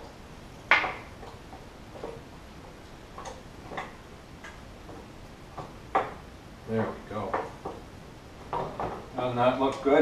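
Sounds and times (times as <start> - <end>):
utensil tapping and scraping a pan: 0.6 - 9.1.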